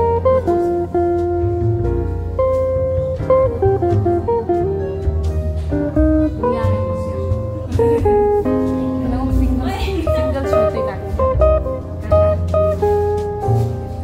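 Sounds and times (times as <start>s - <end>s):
plucked guitar notes: 0.0s - 14.0s
steady bass line: 0.0s - 14.0s.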